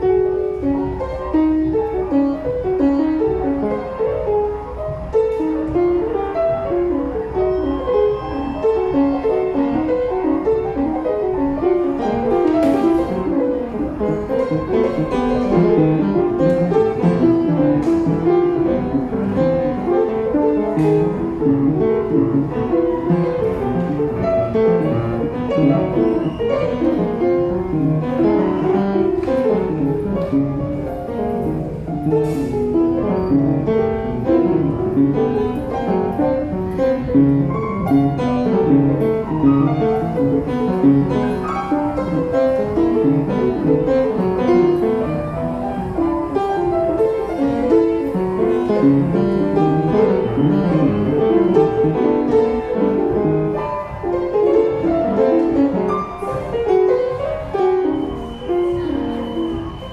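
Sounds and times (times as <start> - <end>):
upright piano improvisation: 0.0 - 59.9.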